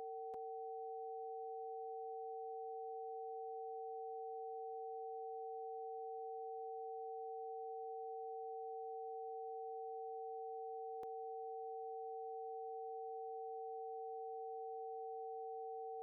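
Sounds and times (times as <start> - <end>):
two steady sine tones: 0.0 - 16.0.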